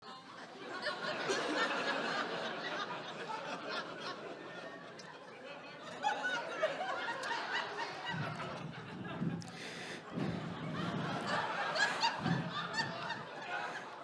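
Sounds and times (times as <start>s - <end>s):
audience laughing: 0.2s - 14.0s.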